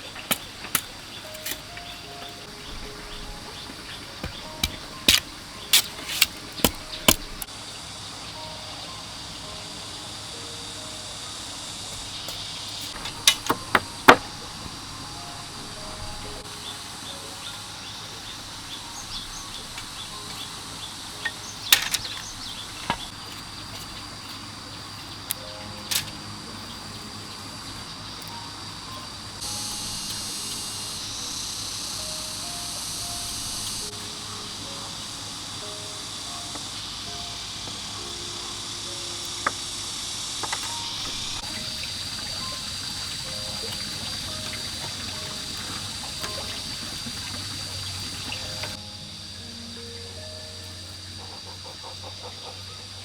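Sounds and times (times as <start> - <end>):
high insect drone: 0.0 - 53.0
soft background music: 0.0 - 53.0.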